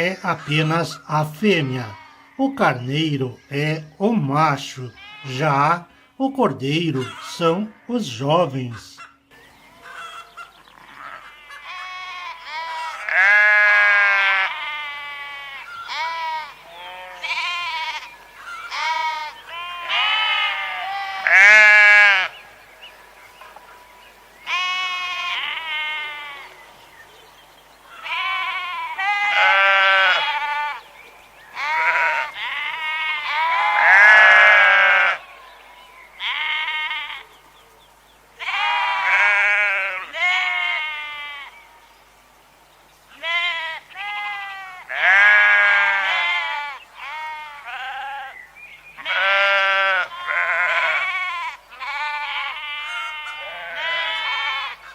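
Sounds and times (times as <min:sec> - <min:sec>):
sheep bleating: 0:00.0 - 0:05.9, 0:06.6 - 0:22.6, 0:24.4 - 0:26.6, 0:27.9 - 0:30.9, 0:31.5 - 0:37.4, 0:38.4 - 0:41.7, 0:43.1 - 0:48.4, 0:49.0 - 0:54.9.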